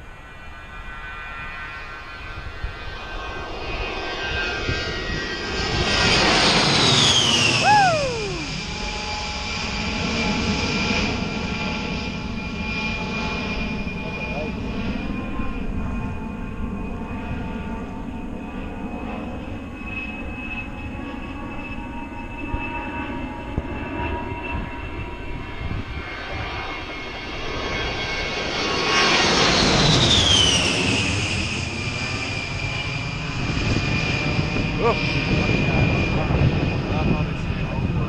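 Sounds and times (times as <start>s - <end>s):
jet engines whining: 0.1s - 18.5s, 23.4s - 38.0s.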